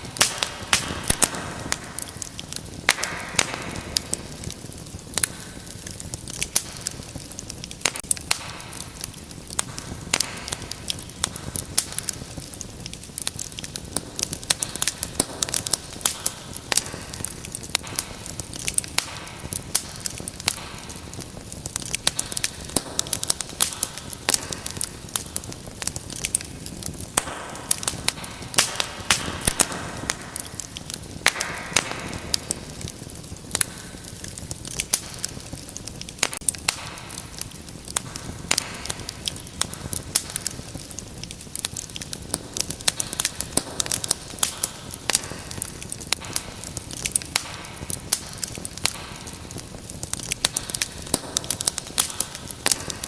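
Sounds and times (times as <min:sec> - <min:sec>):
soft hiss of burning: 0:00.0 - 0:53.0
wood fire crackling and popping: 0:00.0 - 0:53.0.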